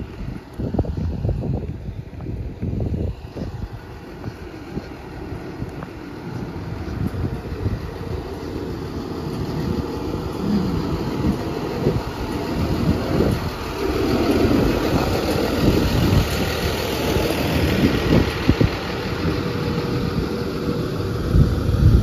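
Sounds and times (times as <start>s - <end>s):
bus engine idling: 0.0s - 22.0s
cars passing: 0.0s - 22.0s.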